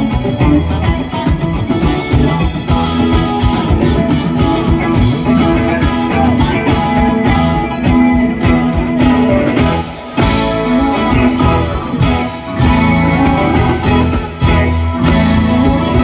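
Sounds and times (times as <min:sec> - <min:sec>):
bass: 0:00.0 - 0:16.0
electric guitar: 0:00.0 - 0:16.0
steady drum beat: 0:00.0 - 0:16.0.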